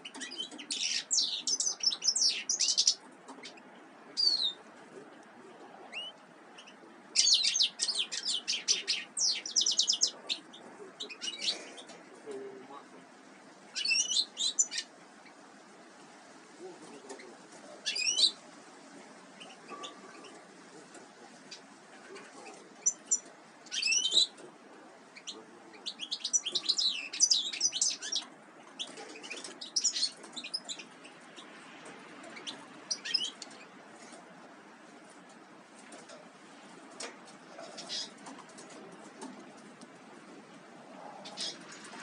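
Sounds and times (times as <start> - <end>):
small songbirds chirping: 0.0 - 15.8, 16.6 - 36.2, 37.0 - 42.0.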